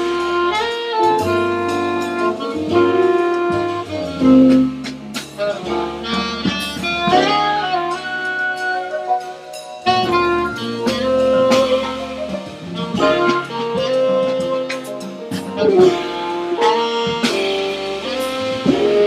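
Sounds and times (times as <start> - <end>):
cymbal or drum strikes: 0.0 - 19.0
jazz combo playing: 0.0 - 19.0.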